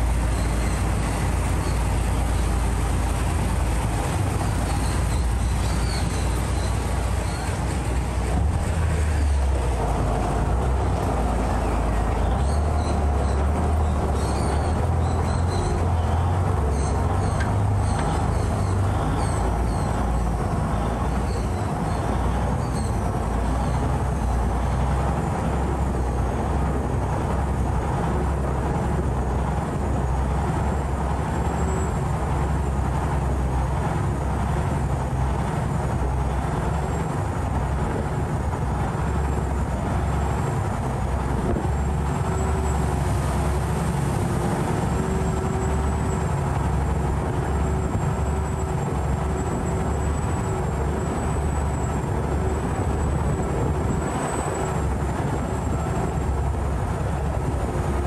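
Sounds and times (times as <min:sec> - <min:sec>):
boat engine running: 0:00.0 - 0:58.0
rushing water and wind: 0:00.0 - 0:58.0.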